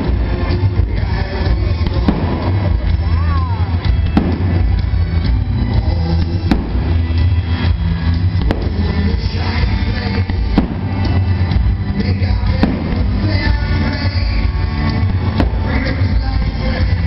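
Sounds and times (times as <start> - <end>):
fireworks cracking: 0.0 - 17.0
loud music with heavy bass: 0.0 - 17.0.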